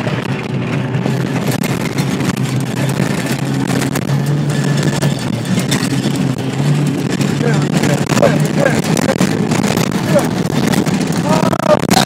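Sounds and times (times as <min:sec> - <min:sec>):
engine running under load: 0:00.0 - 0:12.0
vehicle knocks and rattles: 0:00.0 - 0:12.0.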